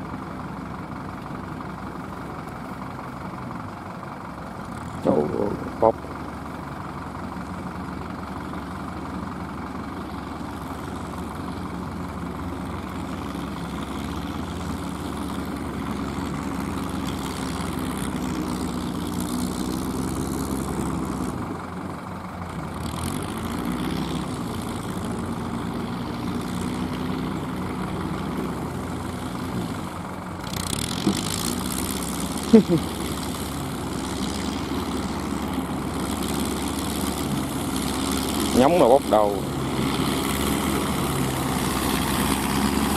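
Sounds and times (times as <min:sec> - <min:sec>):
tractor engine running under load: 0:00.0 - 0:42.9.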